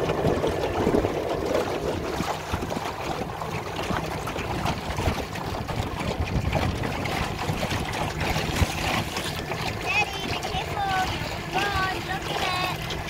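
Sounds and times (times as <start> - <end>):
boat motor hum: 0.0 - 13.0
water slapping hull: 0.0 - 13.0
wind on microphone: 0.0 - 13.0.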